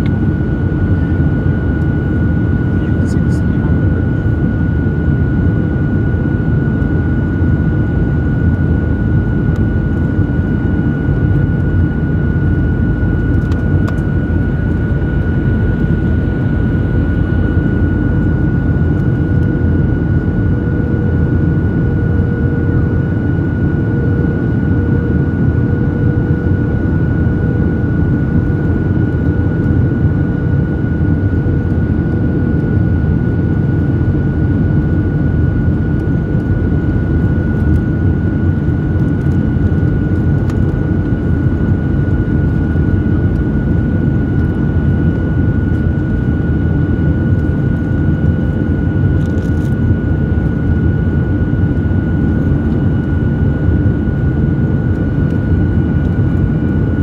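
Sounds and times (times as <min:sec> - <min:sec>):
constant high whine: 0:00.0 - 0:57.0
jet engines and airflow rush: 0:00.0 - 0:57.0.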